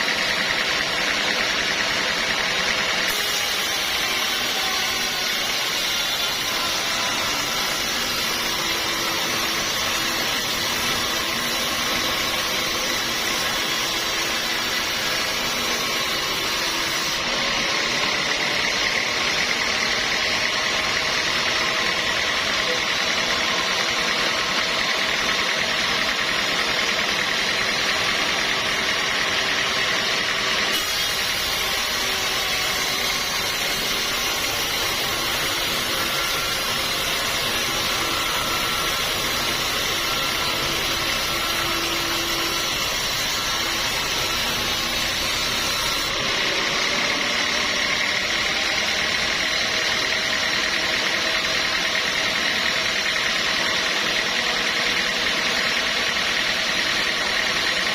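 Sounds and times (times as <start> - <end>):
sawmill machinery whine: 0.0 - 57.9.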